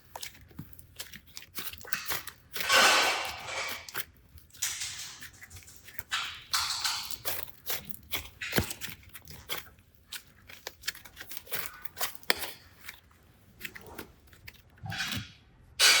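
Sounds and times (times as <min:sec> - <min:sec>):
slime crackling and squishing: 0:00.0 - 0:16.0.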